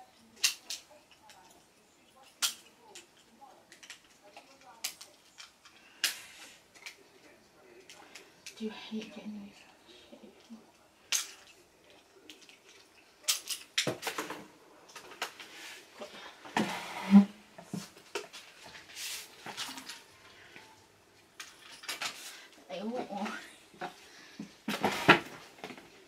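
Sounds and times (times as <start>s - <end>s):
toys and packaging handled: 0.0s - 9.7s, 12.2s - 26.0s.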